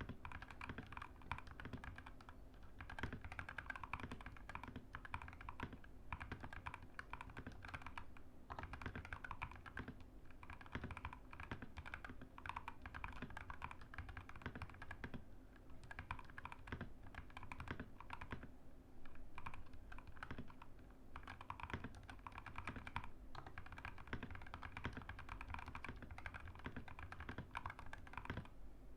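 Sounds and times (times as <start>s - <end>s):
mechanical keyboard typing: 0.0s - 15.2s, 15.8s - 28.5s.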